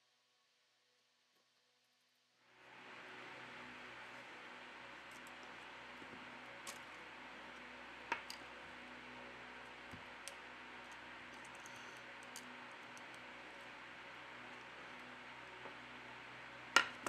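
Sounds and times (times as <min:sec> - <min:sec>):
steady hiss: 0:02.5 - 0:17.0.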